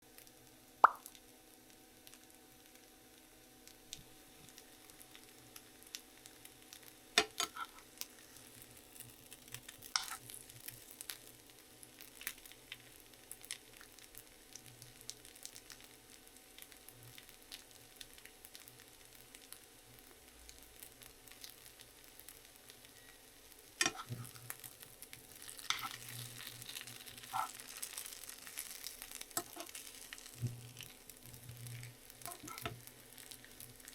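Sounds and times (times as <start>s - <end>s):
faint sizzling hiss: 0.0s - 33.9s.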